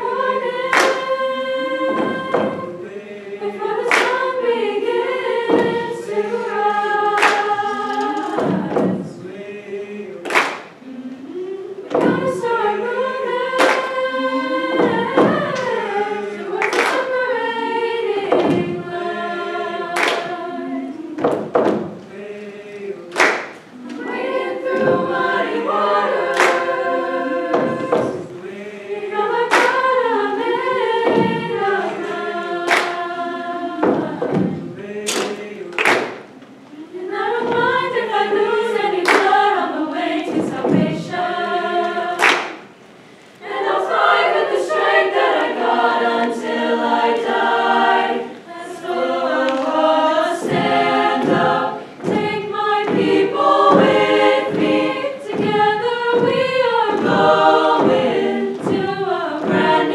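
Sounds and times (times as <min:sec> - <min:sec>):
treble choir singing harmony: 0:00.0 - 0:59.9.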